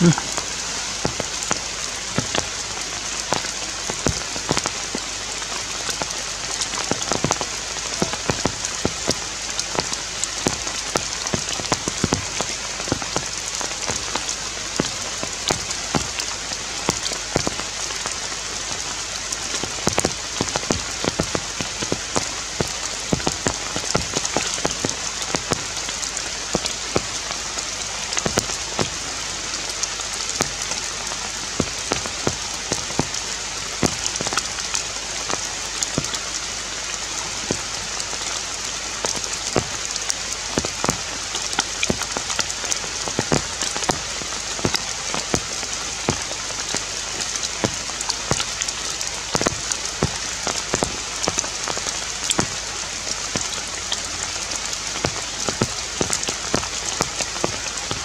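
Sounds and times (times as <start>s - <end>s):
rain hiss: 0.0s - 58.0s
raindrops ticking on leaves: 0.0s - 58.0s.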